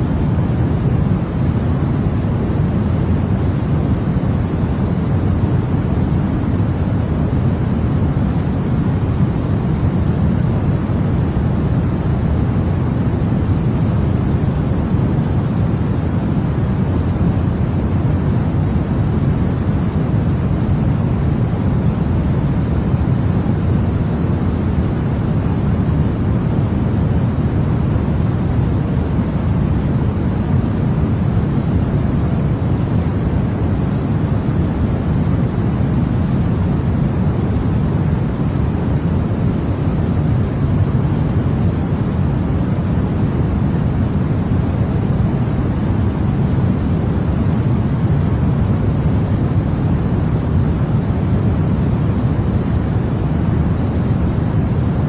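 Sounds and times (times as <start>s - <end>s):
low white noise hiss: 0.0s - 55.0s.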